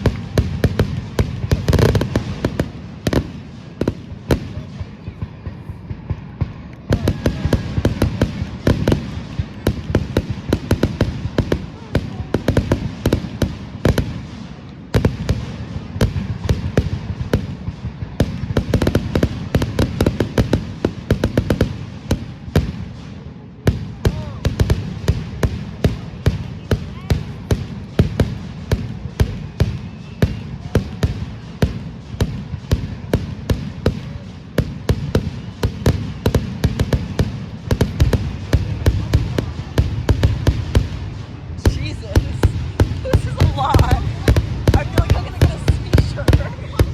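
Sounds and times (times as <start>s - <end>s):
fireworks crackling and booming: 0.0s - 46.9s.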